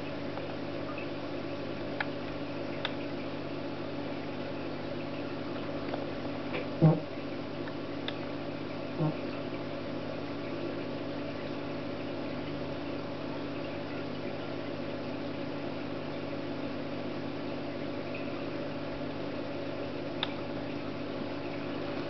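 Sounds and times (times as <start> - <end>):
machine hum with low tones: 0.0 - 22.0.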